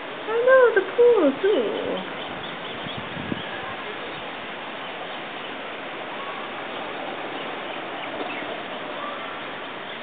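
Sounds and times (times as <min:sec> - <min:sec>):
faint bird calls: 0:01.5 - 0:10.0.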